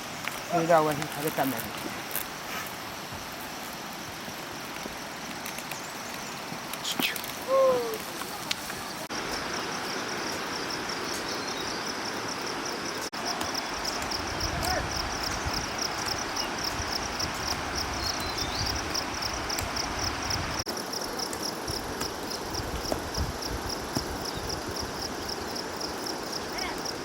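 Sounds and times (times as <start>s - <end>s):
insects chirping: 0.0s - 27.0s
outdoor background hiss: 0.0s - 27.0s.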